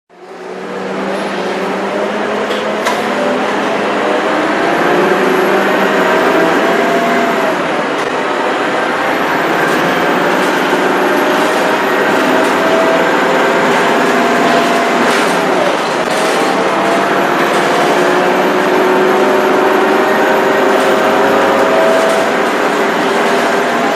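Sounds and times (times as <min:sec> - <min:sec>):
bus diesel engine accelerating: 0:00.1 - 0:23.9.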